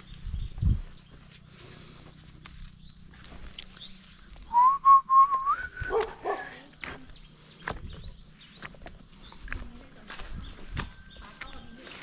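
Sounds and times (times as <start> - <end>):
footsteps on stones and leaves: 0.0 - 12.0.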